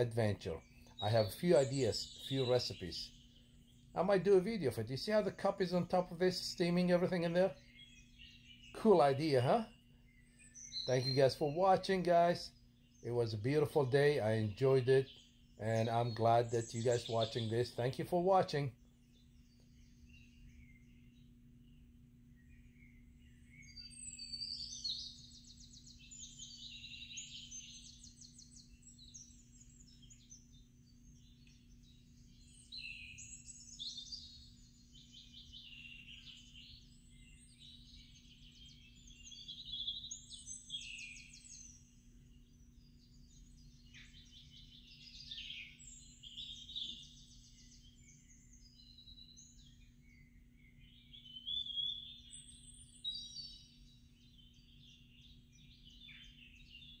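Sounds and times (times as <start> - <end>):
faint low hum: 0.0 - 57.0
songbirds singing and chirping: 0.0 - 57.0.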